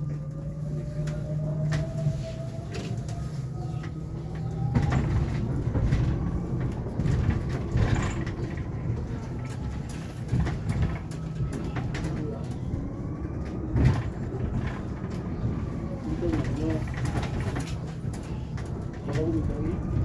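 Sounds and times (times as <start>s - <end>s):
interior rattles: 0.0s - 20.0s
road rumble: 0.0s - 20.0s.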